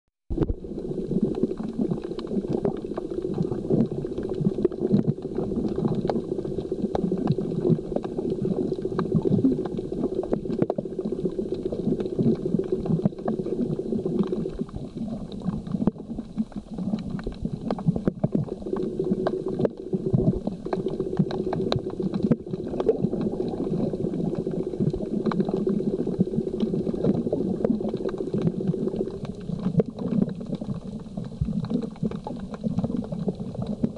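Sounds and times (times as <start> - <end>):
crackle of small clicks: 0.3 - 33.9
underwater bubbling: 0.3 - 33.9.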